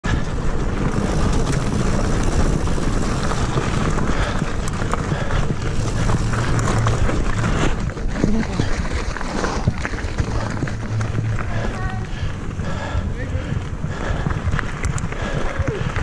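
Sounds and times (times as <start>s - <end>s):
bike rattling and knocking: 0.0s - 16.0s
bike tyres rolling over dirt: 0.0s - 16.0s
wind rushing on camera: 0.0s - 16.0s.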